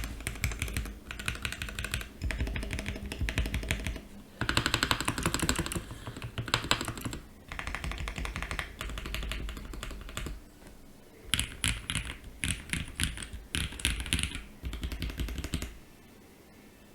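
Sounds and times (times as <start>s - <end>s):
mechanical keyboard typing: 0.0s - 10.4s, 11.3s - 15.8s.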